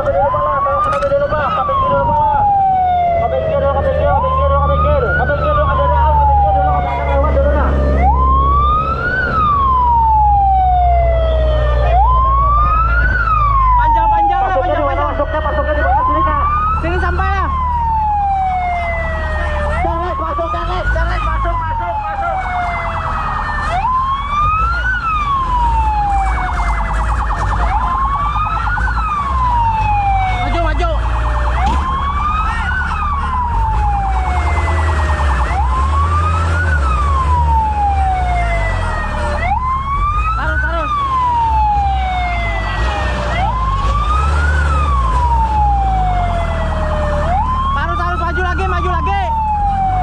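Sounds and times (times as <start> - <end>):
fire truck siren wailing: 0.0 - 50.0.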